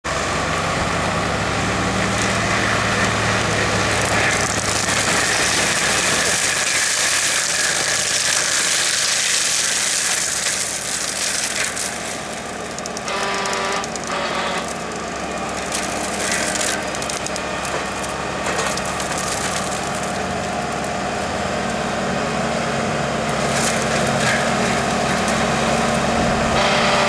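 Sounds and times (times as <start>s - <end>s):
engine hum: 0.0s - 27.0s
mulcher rushing noise: 0.0s - 27.0s.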